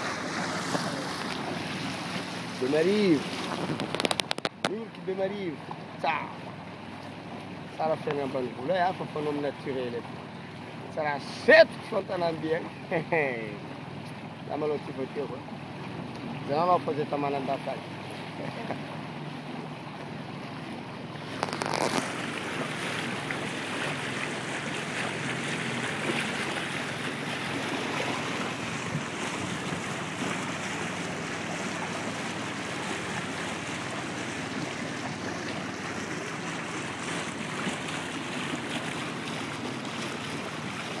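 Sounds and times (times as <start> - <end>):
water rushing along hull: 0.0 - 41.0.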